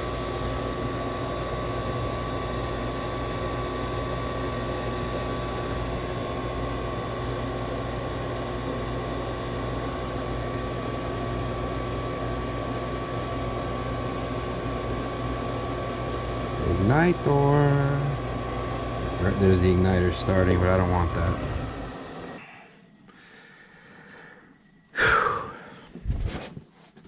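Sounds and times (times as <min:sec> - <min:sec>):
furnace fan motor humming: 0:00.0 - 0:27.0.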